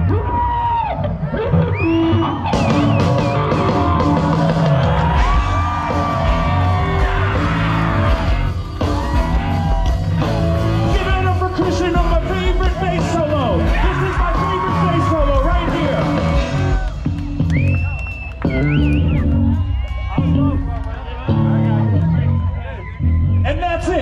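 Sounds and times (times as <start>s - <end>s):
electric guitar: 0.0s - 23.4s
drums: 0.0s - 24.0s
live rock band: 0.0s - 24.0s.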